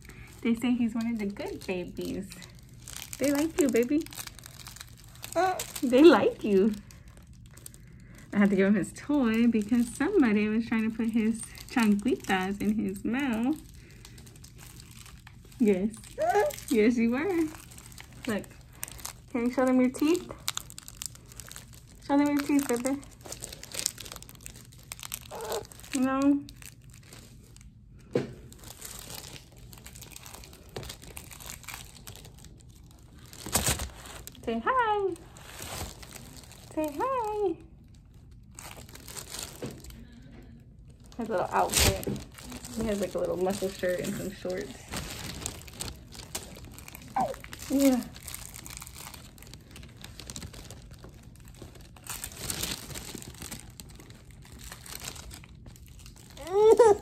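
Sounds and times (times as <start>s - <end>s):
paper crinkling and rustling: 0.0s - 8.1s, 9.1s - 27.7s, 28.3s - 34.4s, 35.1s - 37.2s, 38.0s - 40.3s, 40.9s - 57.0s
sharp paper crackles: 0.0s - 8.2s, 9.4s - 27.7s, 28.4s - 34.4s, 35.1s - 37.3s, 38.4s - 40.2s, 41.4s - 57.0s.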